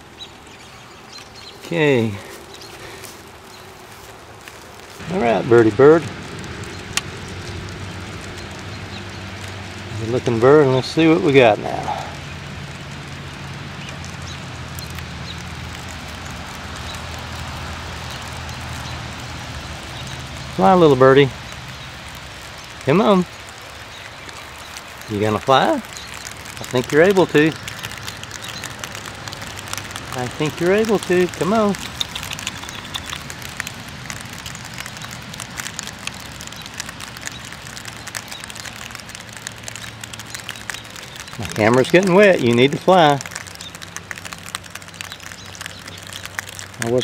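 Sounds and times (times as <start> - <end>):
drops ticking: 0.0 - 47.0
rain falling: 0.0 - 47.0.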